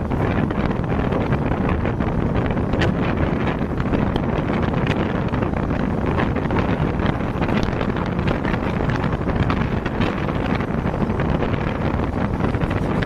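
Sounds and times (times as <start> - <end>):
wheels clicking on track: 0.0 - 13.0
wind buffeting microphone: 0.0 - 13.0.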